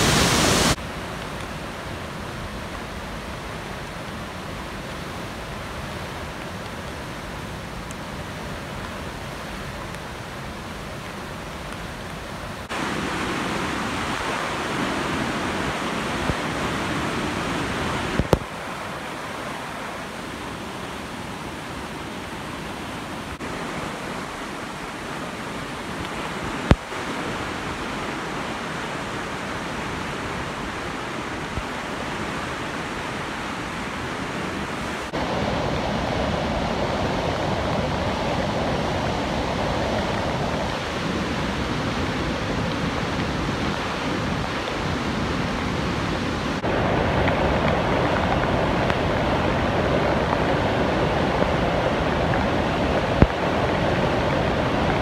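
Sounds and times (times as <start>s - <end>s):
rushing floodwater: 0.0s - 55.0s.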